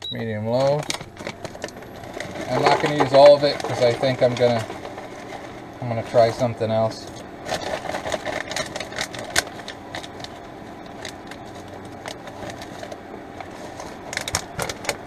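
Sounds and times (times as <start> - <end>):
steady mechanical hum: 0.0 - 15.0
plastic bag crinkling: 0.6 - 6.5, 7.4 - 15.0.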